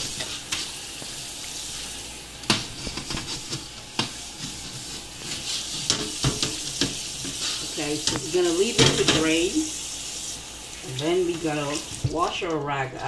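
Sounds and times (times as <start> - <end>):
tap water running into sink: 2.4 - 13.0.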